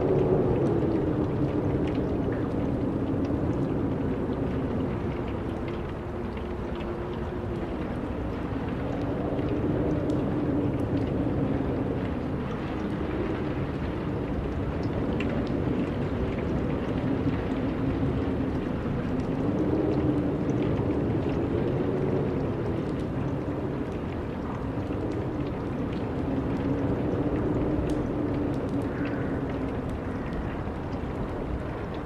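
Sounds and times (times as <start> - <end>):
wind blowing with low moan: 0.0 - 32.0.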